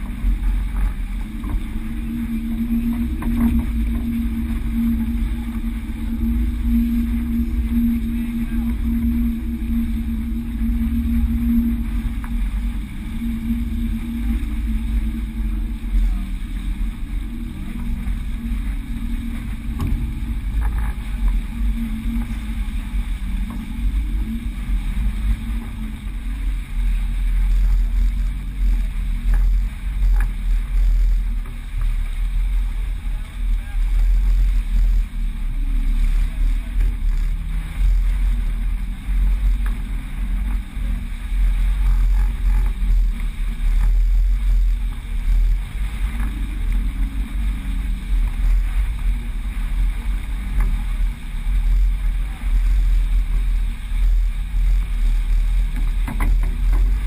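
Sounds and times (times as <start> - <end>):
steady low hum: 0.0 - 57.0
water rushing along hull: 0.0 - 57.0
wind rumbling on microphone: 0.0 - 57.0.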